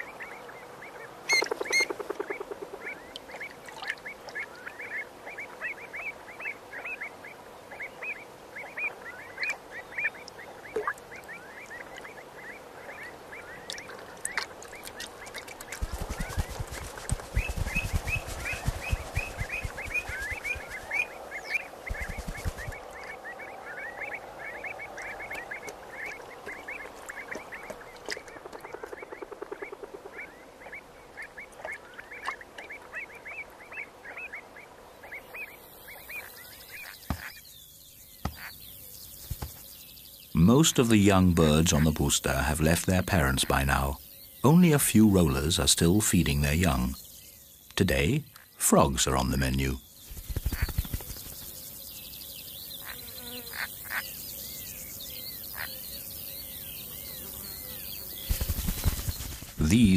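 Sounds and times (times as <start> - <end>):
avocets sharp alarm calls: 0.0 - 27.7, 35.0 - 59.9.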